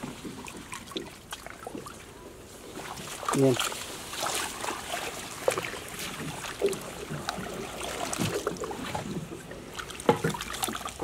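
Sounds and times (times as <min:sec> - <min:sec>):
splashing in shallow water: 0:00.0 - 0:11.0.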